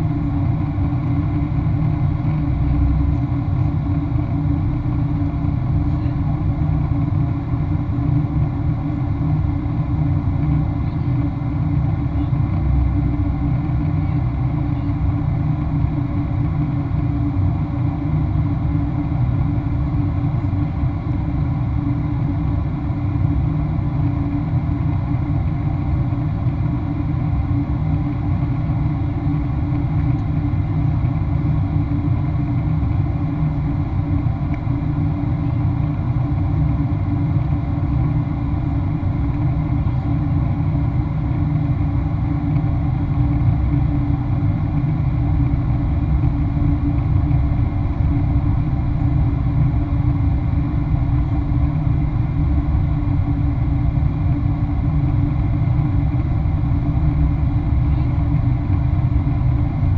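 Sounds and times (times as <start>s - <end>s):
aircraft cabin rumble: 0.0s - 59.9s
steady hum: 0.0s - 59.9s.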